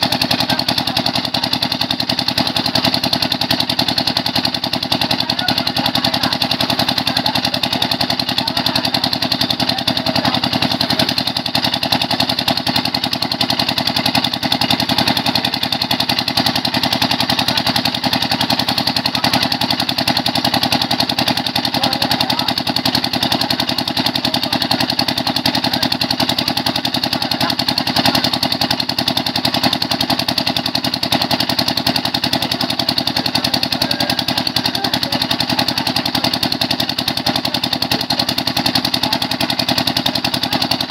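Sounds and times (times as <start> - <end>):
pump engine running steadily: 0.0 - 40.9.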